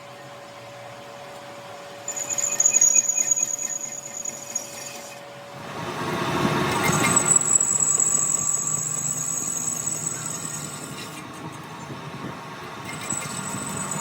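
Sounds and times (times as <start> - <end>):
metalworking machine humming: 0.1 - 14.0
high-pitched whine: 2.0 - 14.0.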